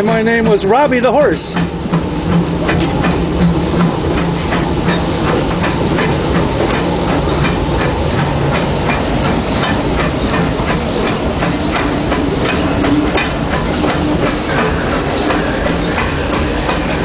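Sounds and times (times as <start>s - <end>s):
locomotive sharp strokes: 0.0s - 17.0s
steam locomotive rumble and rattle: 0.0s - 17.0s.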